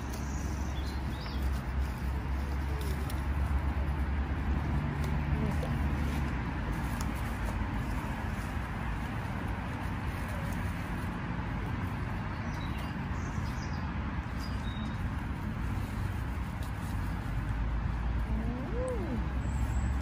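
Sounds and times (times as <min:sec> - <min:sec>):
outdoor background rumble and hiss: 0:00.0 - 0:20.0.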